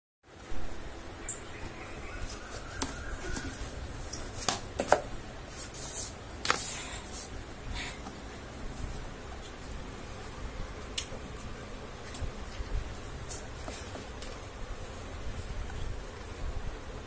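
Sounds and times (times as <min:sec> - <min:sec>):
low steady hum: 0:00.3 - 0:17.0.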